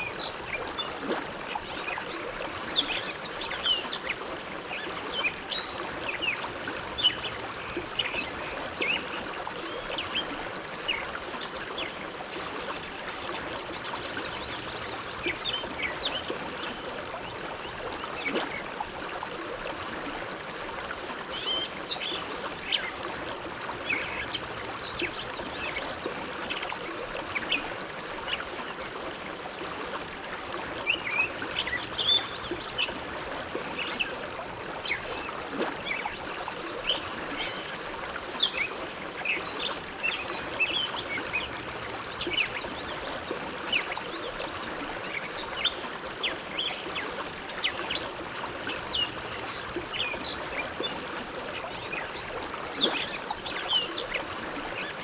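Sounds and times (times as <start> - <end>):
water gurgles and splashes: 0.0 - 55.0.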